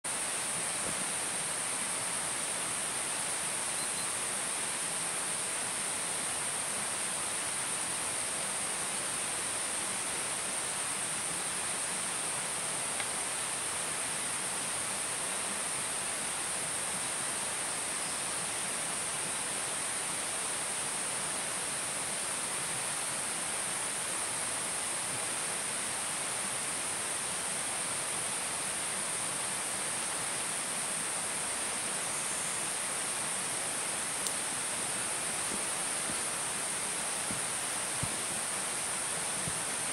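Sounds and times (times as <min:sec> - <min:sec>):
insect chorus high-pitched drone: 0:00.1 - 0:39.9.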